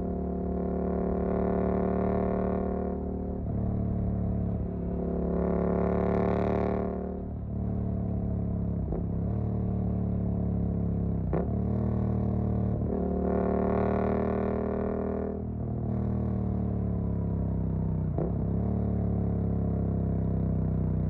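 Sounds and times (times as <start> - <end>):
motorcycle engine revving: 0.1 - 21.0.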